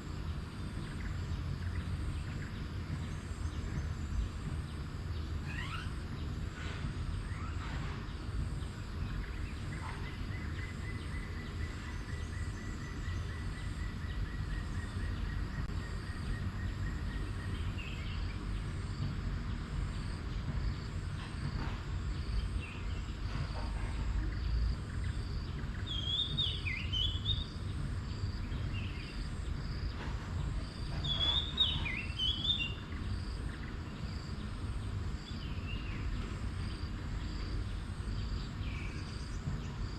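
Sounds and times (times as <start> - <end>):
insect trill: 0.0 - 39.9
insects high-pitched chorus: 0.0 - 39.9
steady low rumble: 0.0 - 39.9.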